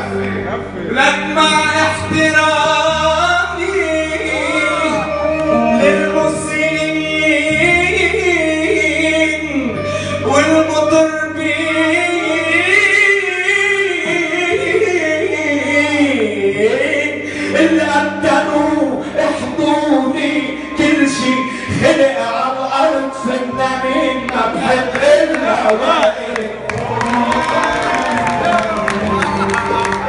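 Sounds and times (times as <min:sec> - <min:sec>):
instrumental accompaniment: 0:00.0 - 0:30.0
man singing into a microphone: 0:00.0 - 0:30.0.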